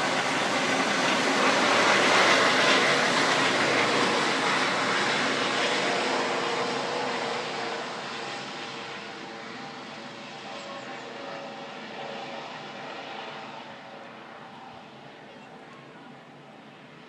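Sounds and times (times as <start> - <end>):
helicopter rotor and turbine: 0.0 - 17.0.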